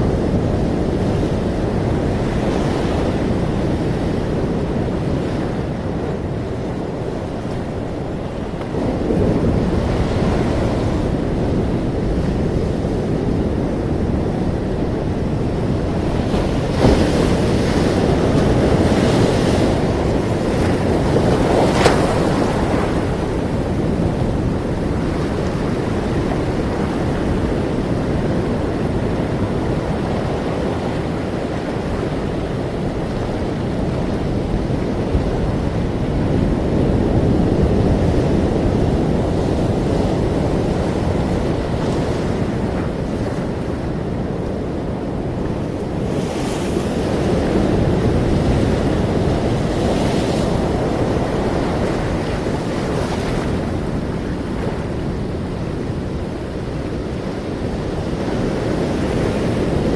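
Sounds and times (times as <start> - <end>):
ocean waves washing: 0.0 - 59.9.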